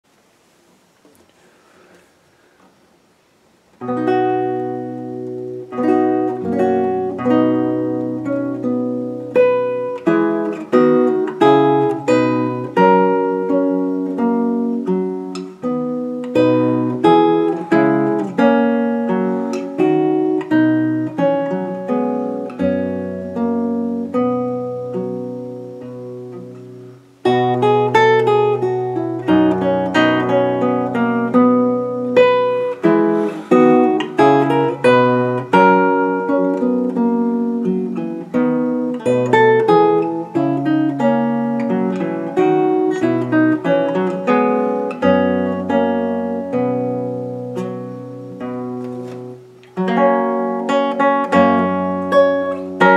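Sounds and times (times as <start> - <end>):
classical guitar fingerpicking: 3.7 - 52.9.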